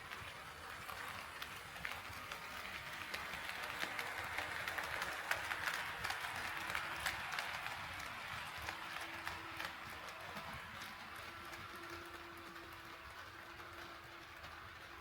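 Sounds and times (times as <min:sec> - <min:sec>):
model train wheels clicking: 0:00.0 - 0:15.0
train running hiss: 0:00.0 - 0:15.0.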